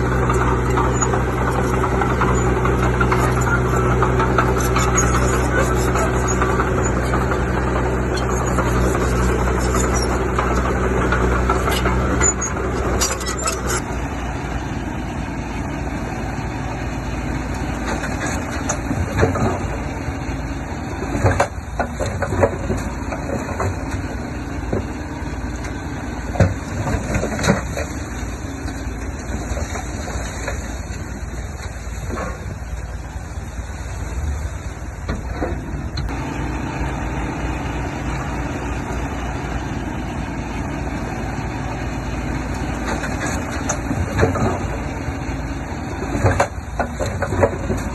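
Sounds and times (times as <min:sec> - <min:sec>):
heavy diesel machinery running: 0:00.0 - 0:47.9.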